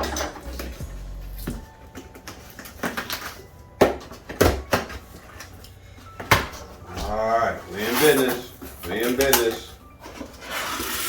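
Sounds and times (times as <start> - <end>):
packaging handling and scraping: 1.6 - 11.0.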